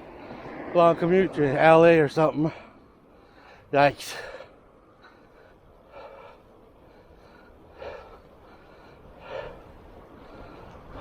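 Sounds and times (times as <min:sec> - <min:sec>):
low wind: 0:00.0 - 0:11.0
road rumble: 0:00.0 - 0:11.0.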